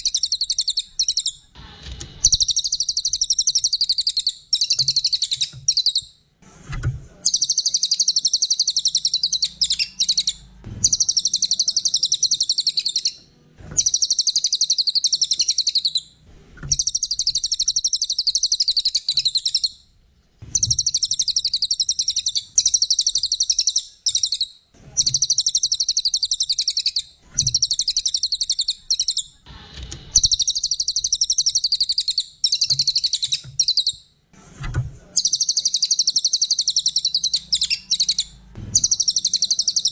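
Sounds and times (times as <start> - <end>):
songbird trilling: 0.0 - 1.4, 2.3 - 6.1, 7.3 - 13.2, 13.8 - 16.1, 16.7 - 19.8, 20.6 - 29.3, 30.2 - 34.0, 35.2 - 39.9.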